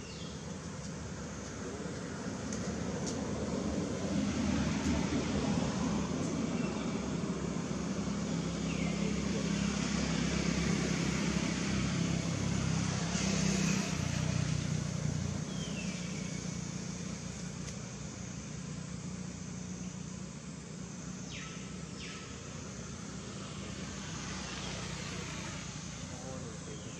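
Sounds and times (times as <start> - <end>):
outdoor background noise: 0.0 - 26.9
vehicle engine rumble: 0.0 - 26.9.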